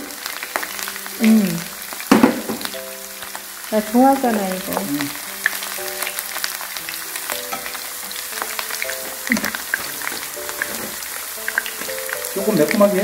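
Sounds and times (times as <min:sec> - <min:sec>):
shrimp sizzling in oil: 0:00.0 - 0:13.0
soft background music: 0:00.0 - 0:13.0.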